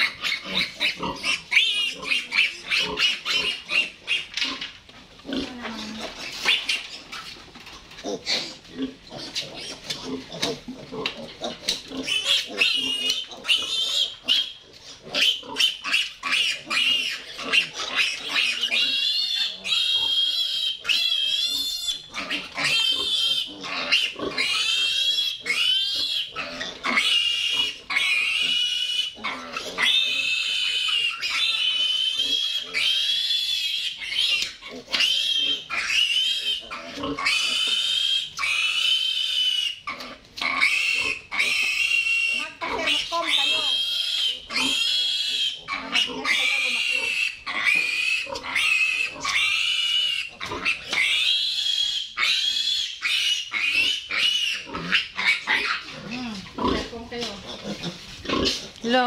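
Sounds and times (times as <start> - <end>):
piglet squealing: 0.0 - 4.3, 11.4 - 56.9.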